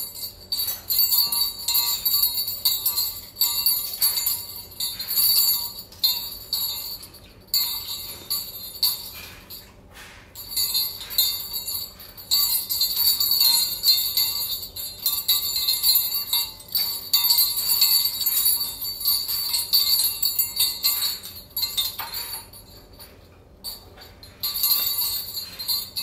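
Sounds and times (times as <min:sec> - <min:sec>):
small bells jingling: 0:00.0 - 0:26.0.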